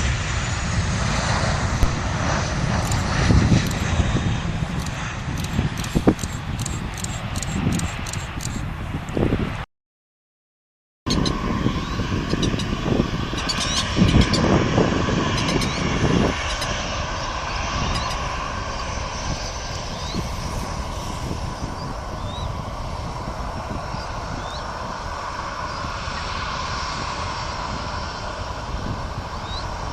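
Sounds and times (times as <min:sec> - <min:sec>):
jet engines roaring: 0:00.0 - 0:09.6, 0:11.1 - 0:29.9
wind bumps on microphone: 0:00.0 - 0:09.6, 0:11.1 - 0:29.9.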